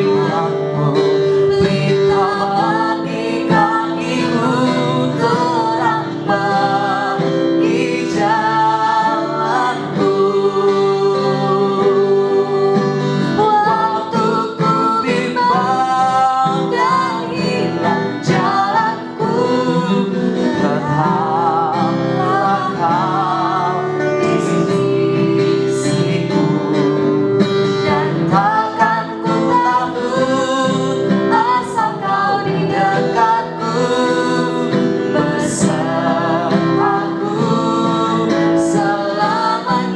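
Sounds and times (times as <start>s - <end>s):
guitar accompaniment: 0.0s - 39.9s
person singing praise song: 0.0s - 39.9s.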